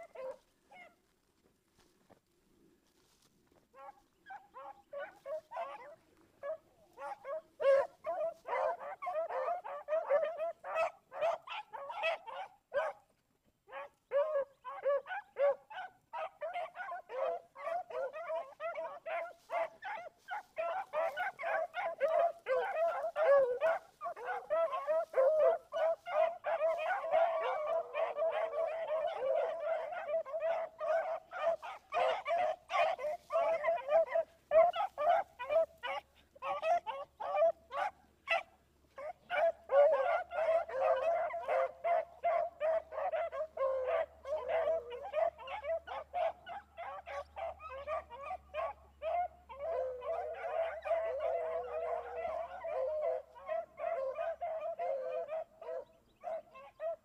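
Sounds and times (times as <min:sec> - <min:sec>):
pack of hounds baying: 0:00.0 - 0:02.2, 0:02.9 - 0:57.0.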